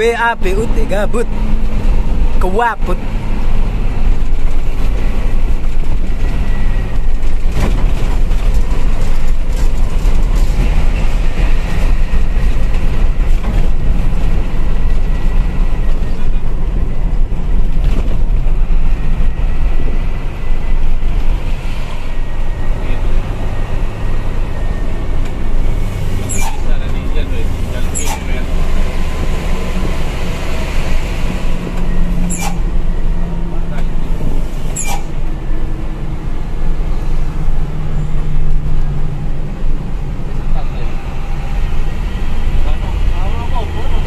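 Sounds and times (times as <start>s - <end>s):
road noise: 0.0s - 44.0s
truck diesel engine running: 0.0s - 44.0s.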